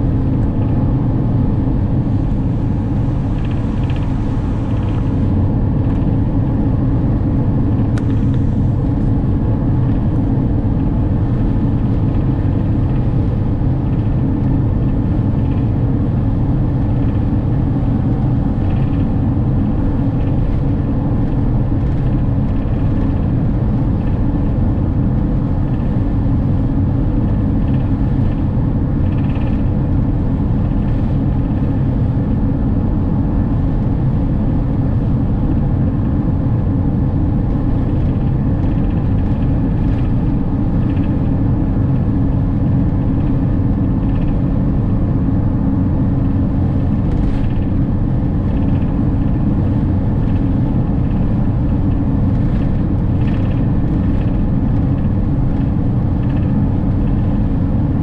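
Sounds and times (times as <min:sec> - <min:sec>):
van road rumble from inside: 0:00.0 - 0:58.0.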